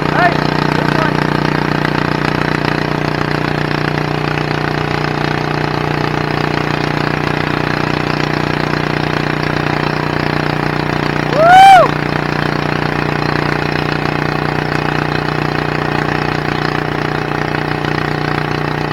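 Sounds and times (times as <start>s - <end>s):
garden tractor engine running: 0.0s - 18.9s.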